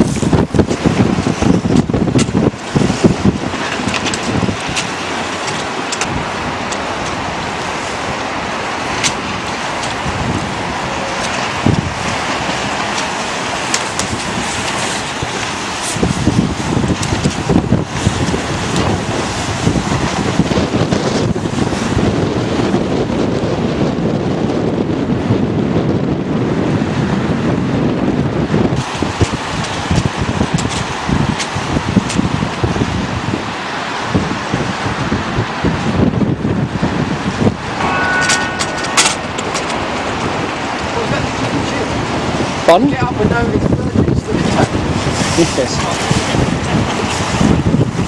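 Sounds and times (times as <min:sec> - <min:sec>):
rushing water: 0:00.0 - 0:48.0
wind buffeting microphone: 0:00.0 - 0:48.0.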